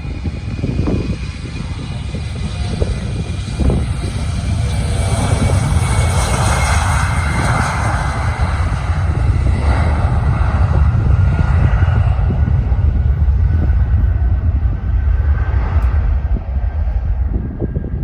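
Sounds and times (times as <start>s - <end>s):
jet engines roaring at takeoff: 0.0s - 18.0s.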